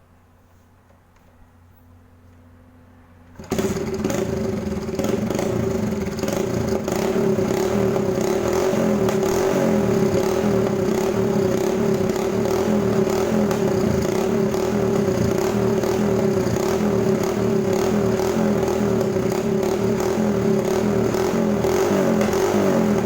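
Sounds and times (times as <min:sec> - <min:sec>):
loud motorcycle engine drone: 0:03.3 - 0:23.0.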